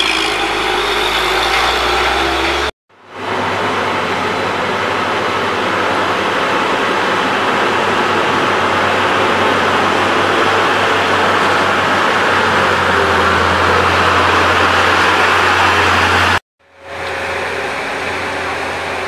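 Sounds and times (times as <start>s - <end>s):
diesel truck engine climbing: 0.0s - 19.0s.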